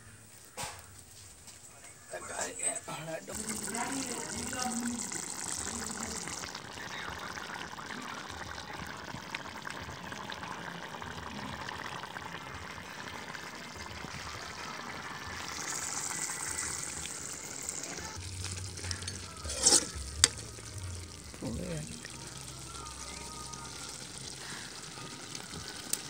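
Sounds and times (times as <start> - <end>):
gravy boiling and bubbling: 1.9 - 26.0.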